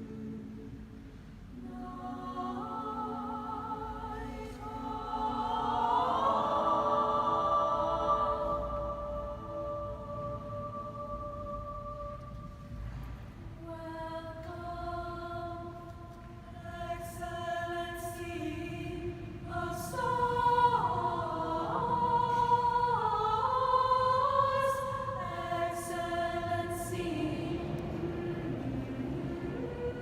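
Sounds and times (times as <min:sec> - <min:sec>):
choir singing held chords: 0:00.0 - 0:30.0.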